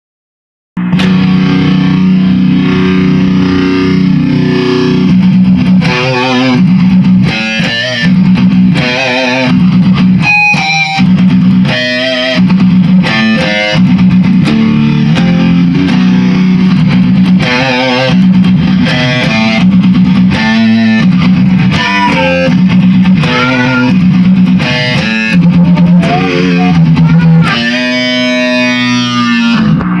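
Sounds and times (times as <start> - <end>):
distorted electric guitar: 0.8 - 30.0.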